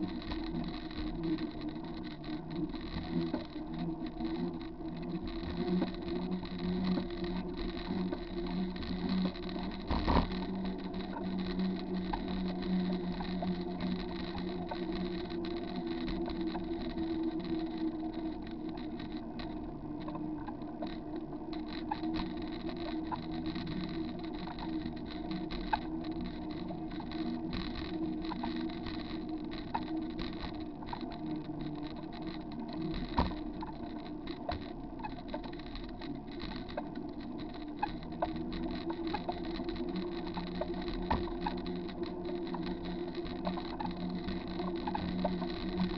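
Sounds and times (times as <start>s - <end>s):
bicycle tyres and drivetrain humming: 0.0s - 45.9s
sharp clicks and knocks: 0.0s - 45.9s.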